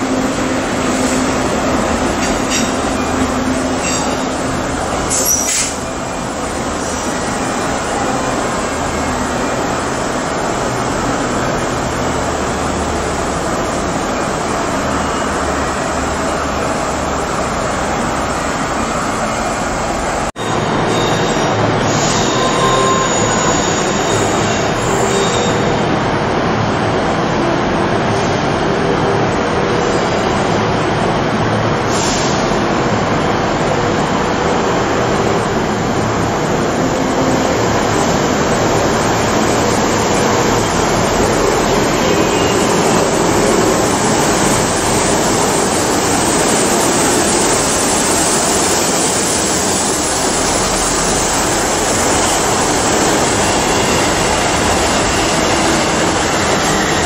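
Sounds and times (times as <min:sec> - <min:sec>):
train rumbling past slowly: 0:00.0 - 0:57.0.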